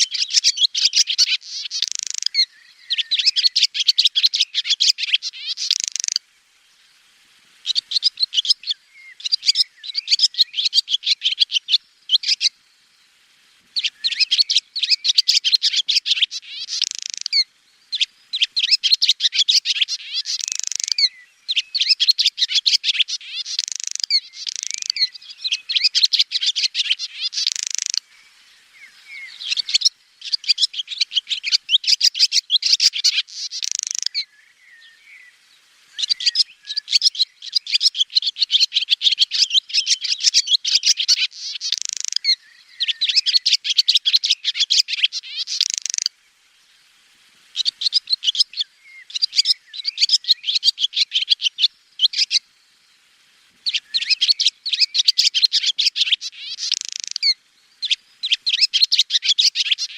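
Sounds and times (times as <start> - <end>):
swallow twittering: 0.0 - 6.2, 7.6 - 13.0, 13.8 - 46.1, 47.5 - 52.4, 53.6 - 59.9.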